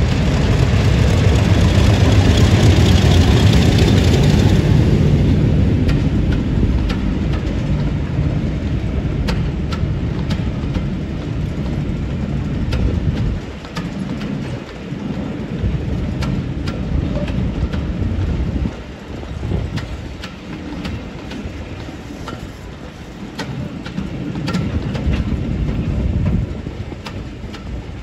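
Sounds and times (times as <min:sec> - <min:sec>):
train rumbling past: 0:00.0 - 0:28.0
train wheels clicking over rail joints: 0:00.0 - 0:28.0.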